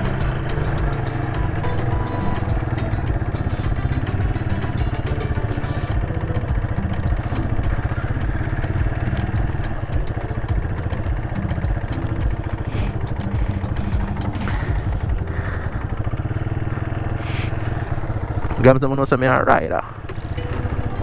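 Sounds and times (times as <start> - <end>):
small motorcycle engine running: 0.0 - 18.8, 19.9 - 21.0.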